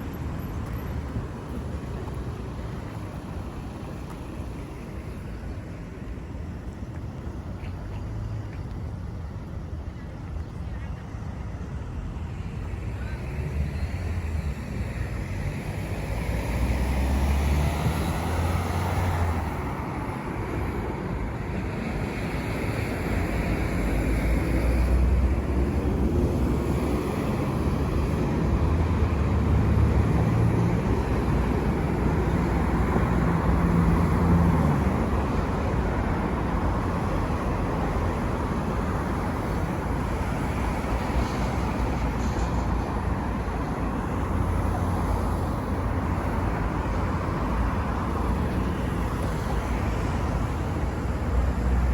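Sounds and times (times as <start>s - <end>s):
cars passing: 0.0s - 51.9s
steady traffic hum: 0.0s - 51.9s.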